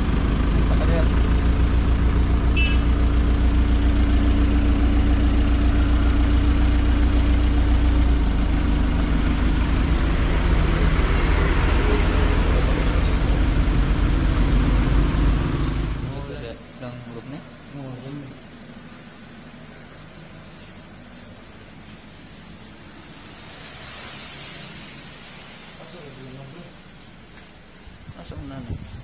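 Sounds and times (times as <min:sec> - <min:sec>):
truck engine running: 0:00.0 - 0:23.6
hiss: 0:01.2 - 0:29.0.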